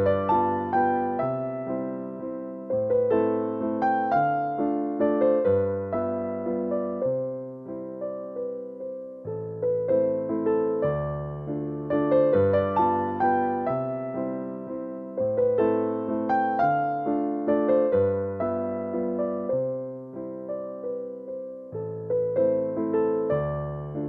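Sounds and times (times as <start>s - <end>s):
gentle piano tune: 0.0s - 24.0s.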